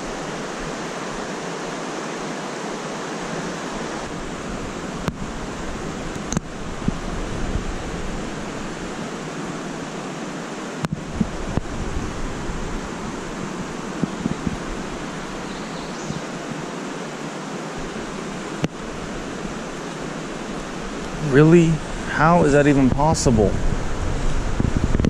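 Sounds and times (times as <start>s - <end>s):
creek water flowing: 0.0s - 25.0s.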